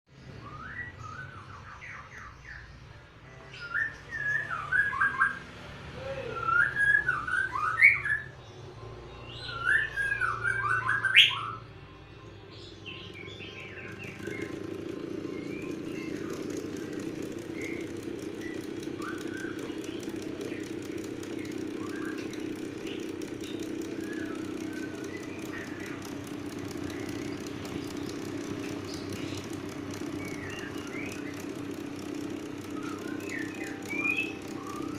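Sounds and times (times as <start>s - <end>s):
birds chirping: 0.1s - 34.9s
electric fan humming: 4.2s - 34.9s.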